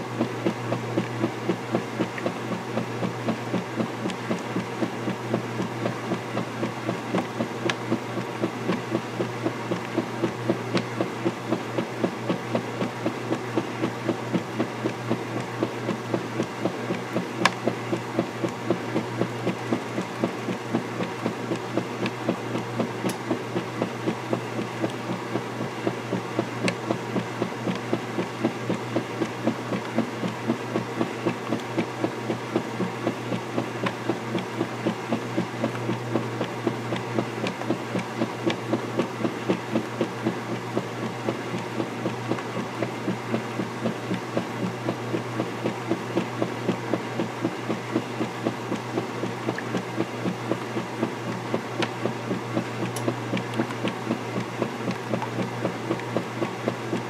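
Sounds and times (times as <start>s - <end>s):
washer motor hum: 0.0s - 57.0s.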